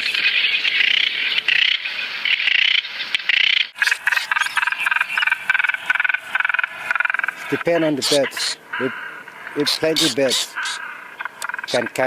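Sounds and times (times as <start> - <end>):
seabirds chattering calls: 0.0 - 12.0.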